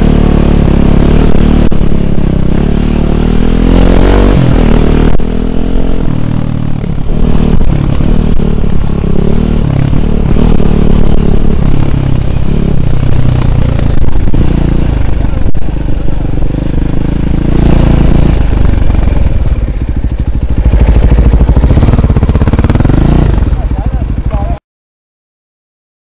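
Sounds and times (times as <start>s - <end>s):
dirt bike engine revving: 0.0s - 24.6s.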